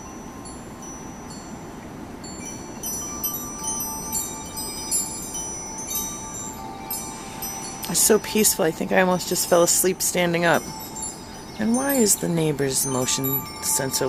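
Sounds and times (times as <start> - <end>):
low rush of wind: 0.0 - 14.0
wind chimes ringing: 0.0 - 14.0.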